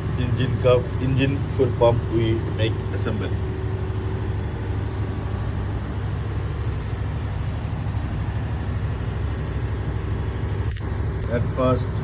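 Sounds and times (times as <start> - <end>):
engine machinery droning: 0.0 - 12.0.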